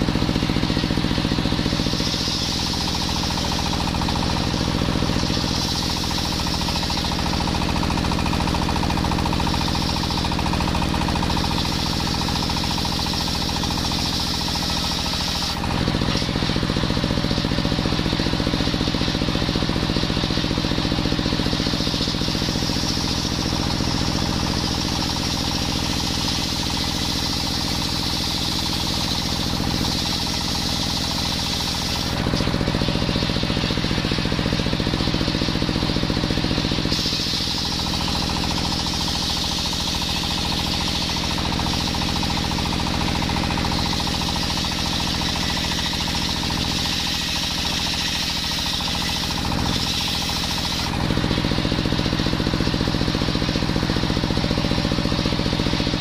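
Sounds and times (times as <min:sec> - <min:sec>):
circular saw cutting wood: 0:00.0 - 0:56.0
stationary engine beating: 0:00.0 - 0:56.0.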